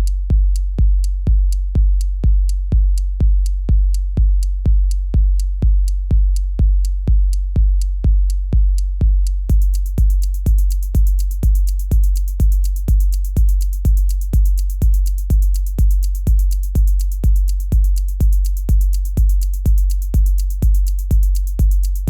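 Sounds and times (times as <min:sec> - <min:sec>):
fast hi-hat ticks: 0:00.0 - 0:08.4, 0:09.2 - 0:22.0
techno drum machine kick: 0:00.0 - 0:22.0.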